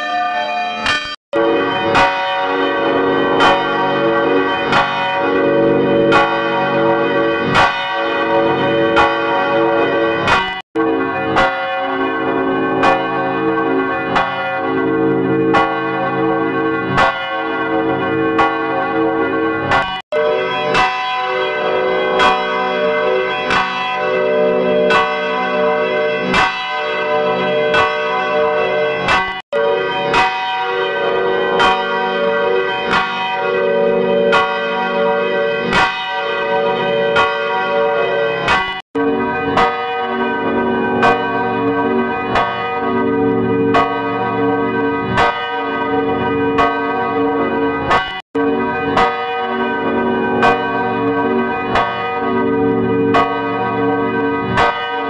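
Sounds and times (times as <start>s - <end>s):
church bell ringing: 0.0s - 55.0s.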